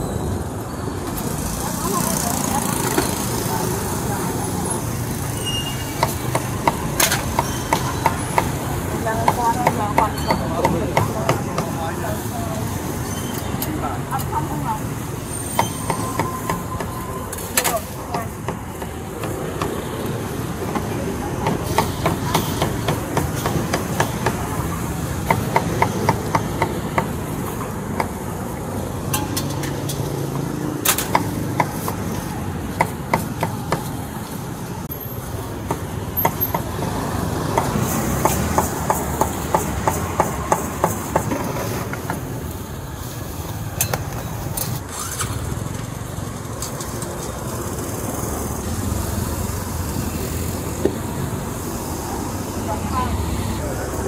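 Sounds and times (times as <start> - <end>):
steady noisy background: 0.0 - 54.0.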